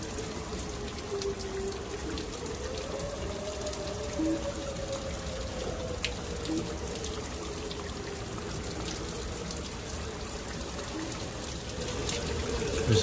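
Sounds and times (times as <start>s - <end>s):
tornado siren wailing: 0.0s - 13.0s.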